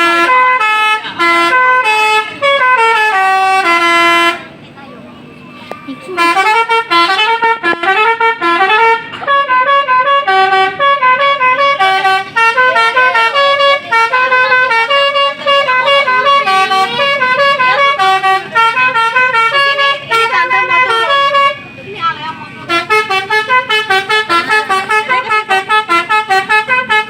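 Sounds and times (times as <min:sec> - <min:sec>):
musical bus horn melody: 0:00.0 - 0:05.3, 0:05.9 - 0:27.0.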